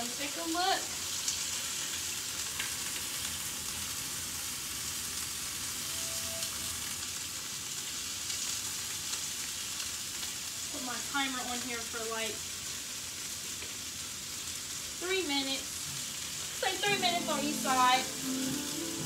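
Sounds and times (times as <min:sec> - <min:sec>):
chicken sizzling in a skillet: 0:00.0 - 0:19.0.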